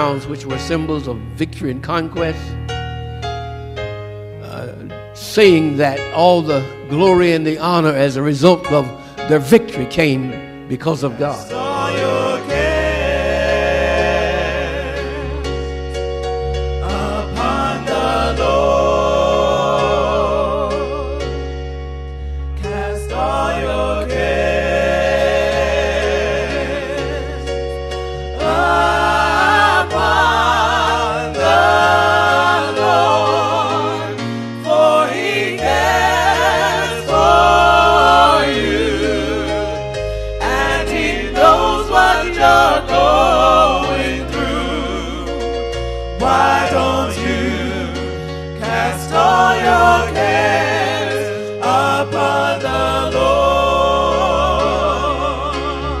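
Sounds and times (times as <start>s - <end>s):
gospel singing voices with vibrato: 4.4s - 56.0s.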